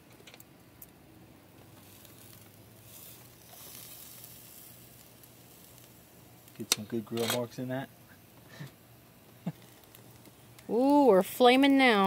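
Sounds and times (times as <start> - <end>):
fish sizzling on a grill: 0.0 - 12.0.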